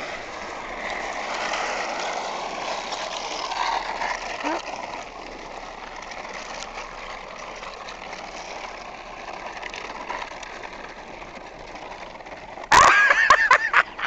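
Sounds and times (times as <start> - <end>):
car driving over gravel: 0.0 - 12.8.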